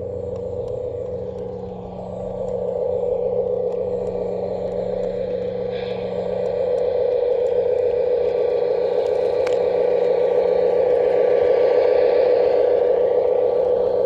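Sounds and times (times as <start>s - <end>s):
wheels ticking: 0.0s - 11.8s
model locomotive motor hum: 0.0s - 14.0s.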